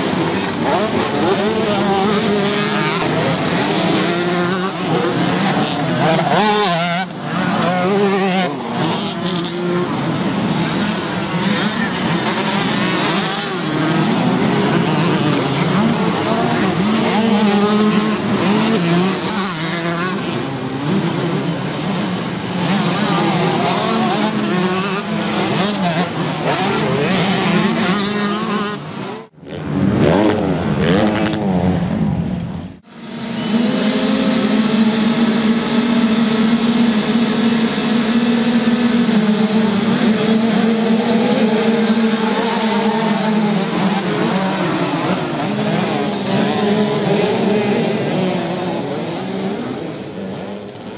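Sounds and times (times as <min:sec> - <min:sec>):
motocross engines revving: 0:00.0 - 0:50.9
two-stroke bikes at high revs: 0:00.0 - 0:50.9.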